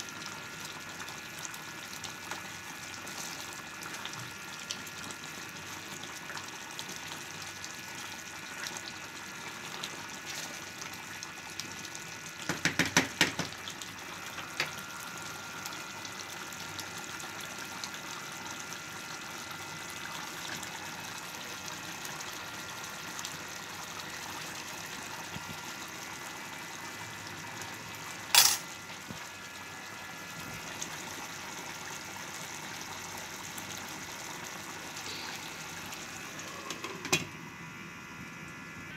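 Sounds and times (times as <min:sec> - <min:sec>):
curry bubbling in a wok: 0:00.0 - 0:37.6.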